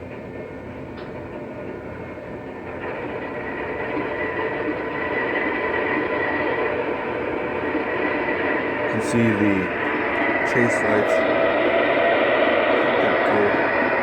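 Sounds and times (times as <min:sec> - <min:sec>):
diesel engine sound from speaker: 0:00.0 - 0:14.0
model train rumbling on track: 0:00.0 - 0:14.0.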